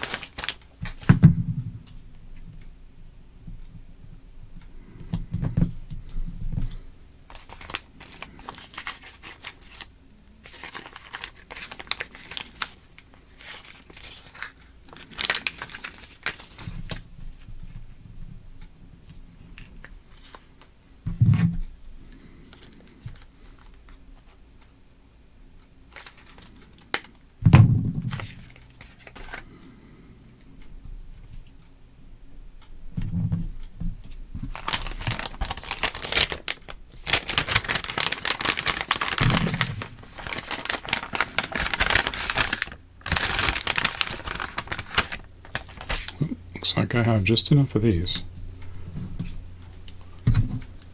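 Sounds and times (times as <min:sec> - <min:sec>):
tape crinkling and rustling: 0:00.0 - 0:02.5, 0:04.6 - 0:18.4, 0:19.0 - 0:24.8, 0:25.6 - 0:29.6, 0:32.5 - 0:50.9.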